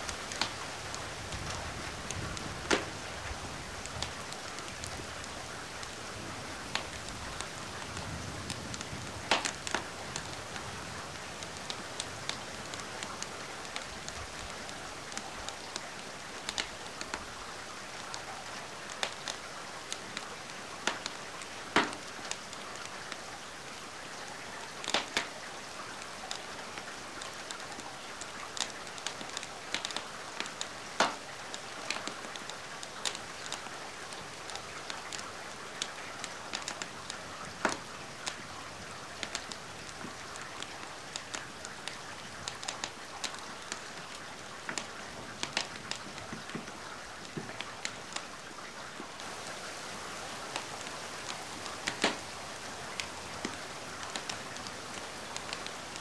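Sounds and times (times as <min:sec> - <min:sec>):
fire crackling and popping: 0:00.0 - 0:23.3, 0:24.8 - 0:48.3, 0:49.2 - 0:56.0
rain hiss: 0:00.0 - 0:56.0.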